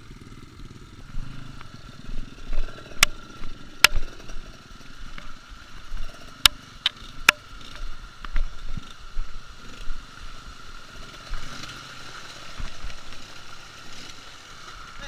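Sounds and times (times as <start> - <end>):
motorcycle rumbling: 0.0 - 15.0.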